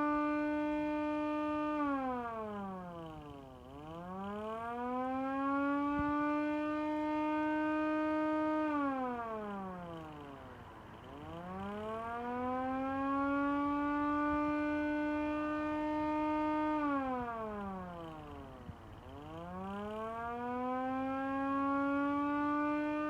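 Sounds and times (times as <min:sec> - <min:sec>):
electric siren winding up and down: 0:00.0 - 0:23.0.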